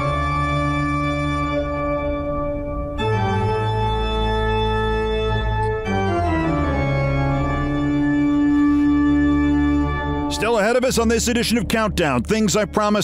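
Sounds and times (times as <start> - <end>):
organ-like held chords: 0.0 - 13.0.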